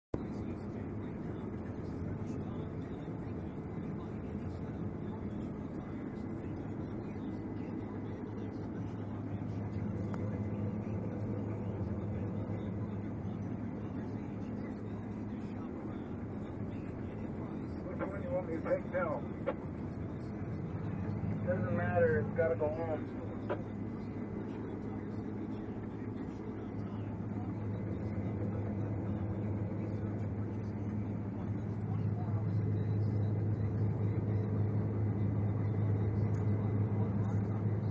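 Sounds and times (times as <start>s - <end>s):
harvester engine droning: 0.2s - 37.9s.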